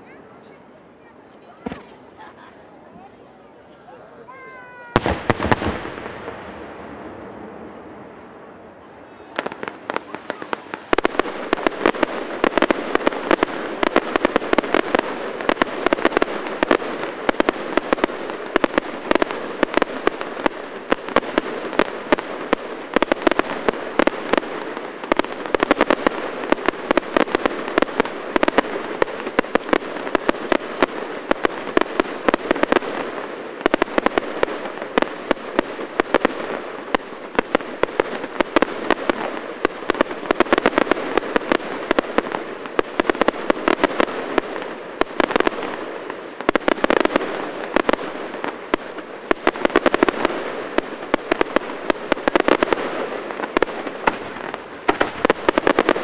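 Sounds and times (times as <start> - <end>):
fireworks bangs and pops: 0.0 - 3.3, 3.9 - 56.0.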